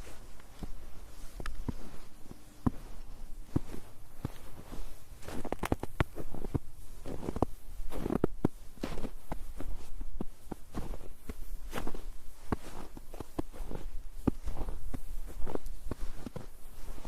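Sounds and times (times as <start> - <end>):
footsteps crunching in snow: 0.0 - 17.0.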